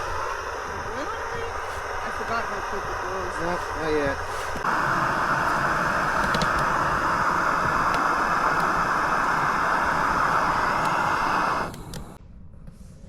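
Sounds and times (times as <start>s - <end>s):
loud hissing rush: 0.0s - 12.2s.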